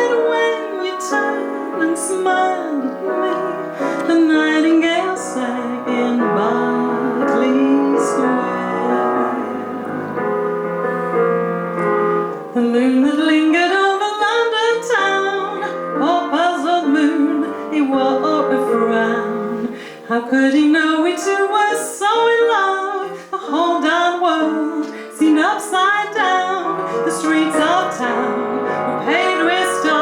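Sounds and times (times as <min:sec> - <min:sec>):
woman singing a slow ballad: 0:00.0 - 0:10.2, 0:12.4 - 0:30.0
piano accompaniment: 0:00.0 - 0:30.0.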